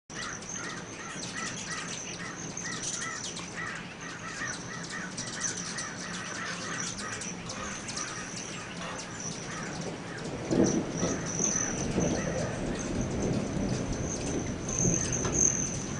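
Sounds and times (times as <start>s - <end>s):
hummingbirds twittering: 0.1s - 15.9s
repeated low bird call: 0.1s - 15.9s.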